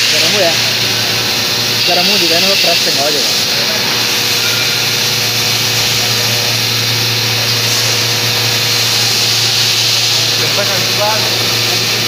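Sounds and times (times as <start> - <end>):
press machine low hum: 0.0 - 12.0.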